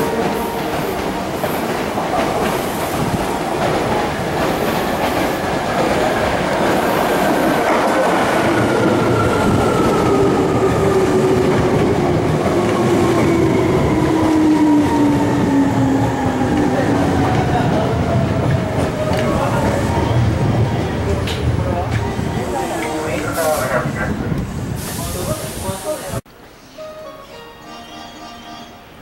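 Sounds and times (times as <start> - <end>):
train wheels clattering on rails: 0.0 - 24.5.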